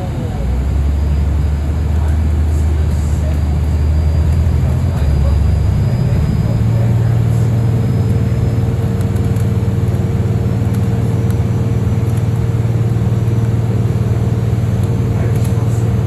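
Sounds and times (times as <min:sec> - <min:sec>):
bus engine drone: 0:00.0 - 0:16.0
road noise: 0:00.0 - 0:16.0
thin steady whine: 0:00.0 - 0:16.0.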